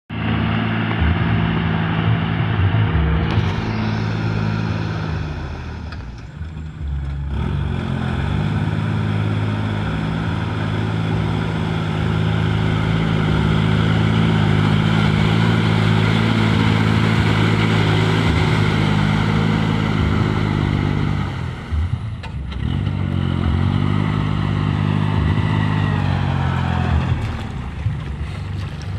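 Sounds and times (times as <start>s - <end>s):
old engine running: 0.1s - 28.9s.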